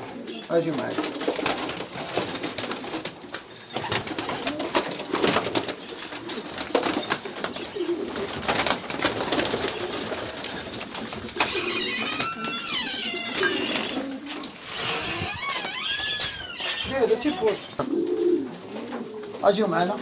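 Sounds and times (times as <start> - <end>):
pigeons cooing: 0.0 - 15.5, 16.6 - 20.0
clicks and rustles: 0.7 - 19.4.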